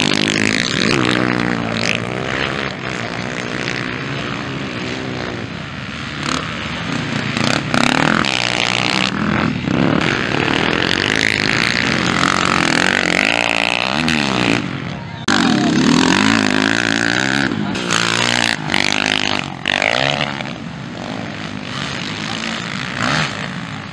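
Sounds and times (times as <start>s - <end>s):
dirt bike engines revving: 0.0s - 23.9s
dirt bikes passing: 0.0s - 23.9s.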